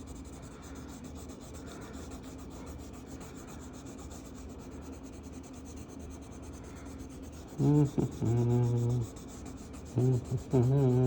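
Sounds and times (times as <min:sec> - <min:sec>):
marker rubbing on paper: 0:00.0 - 0:11.0.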